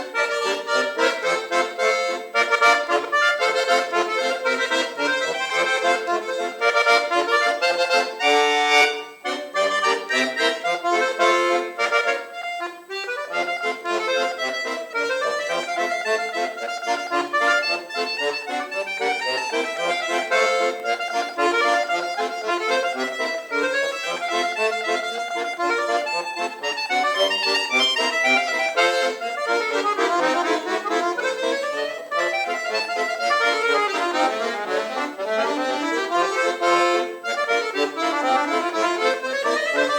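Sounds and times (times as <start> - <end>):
solo accordion music: 0.0 - 39.9.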